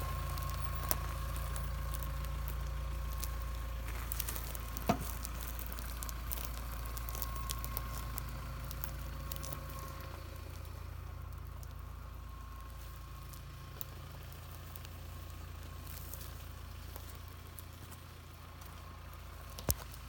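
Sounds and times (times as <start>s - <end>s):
crackles and clicks: 0.0s - 20.0s
vehicle engine rumble: 0.0s - 20.0s.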